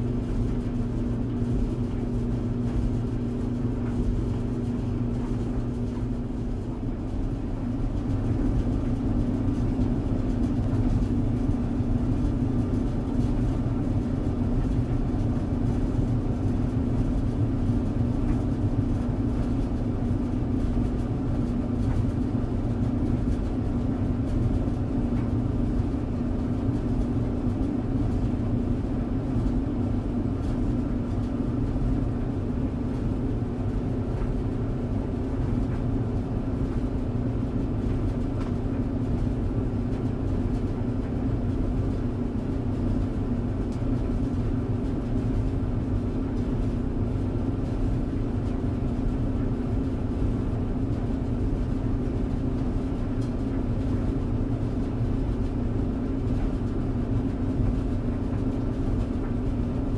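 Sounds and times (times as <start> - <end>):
tumble dryer running: 0.0 - 59.9.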